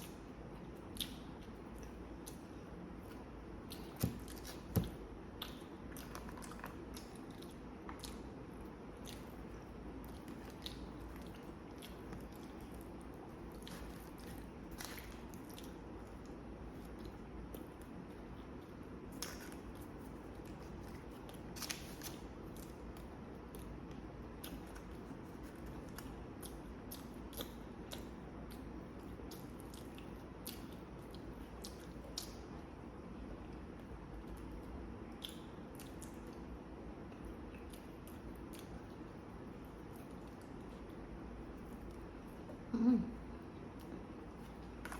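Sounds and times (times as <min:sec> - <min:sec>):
person chewing food: 0:00.0 - 0:32.7, 0:33.4 - 0:44.9
low background hum: 0:00.0 - 0:44.9.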